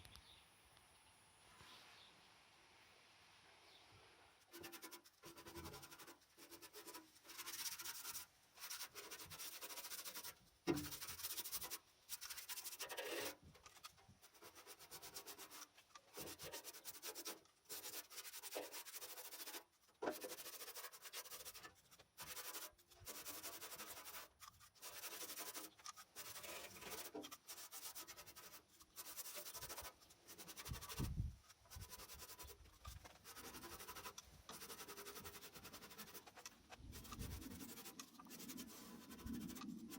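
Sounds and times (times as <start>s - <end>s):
hand sanding metal: 4.5s - 39.9s.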